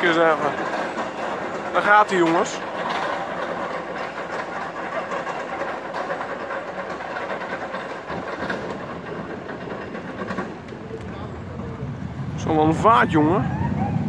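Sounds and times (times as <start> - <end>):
roller coaster wheels on steel track: 0.0 - 14.0.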